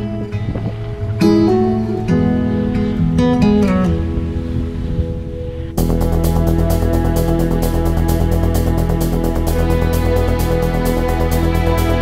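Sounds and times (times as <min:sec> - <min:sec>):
music with held tones and beat: 0:00.0 - 0:12.0.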